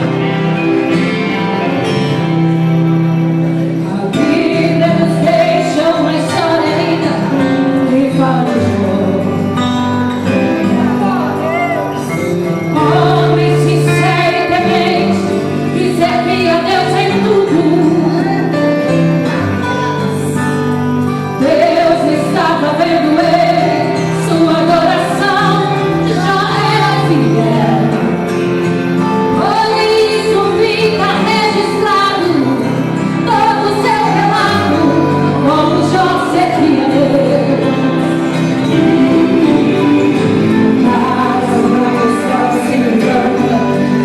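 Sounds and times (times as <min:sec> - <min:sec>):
sustained instrumental accompaniment: 0:00.0 - 0:44.0
women's group singing a hymn: 0:03.7 - 0:10.0, 0:12.1 - 0:20.6, 0:21.2 - 0:44.0
woman lead singing: 0:03.8 - 0:09.7, 0:10.7 - 0:19.0, 0:21.4 - 0:28.2, 0:29.3 - 0:44.0.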